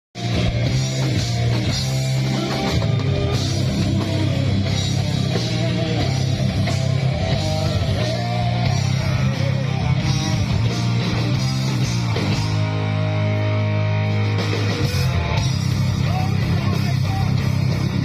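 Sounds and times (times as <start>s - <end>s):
heavy guitar: 0.2s - 18.0s
rock band playing live: 0.2s - 18.0s.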